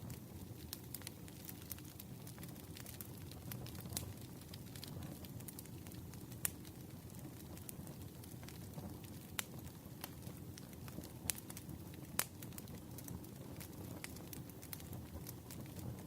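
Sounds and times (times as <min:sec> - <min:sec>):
burning wood popping and snapping: 0:00.0 - 0:16.0
campfire hissing: 0:00.0 - 0:16.0.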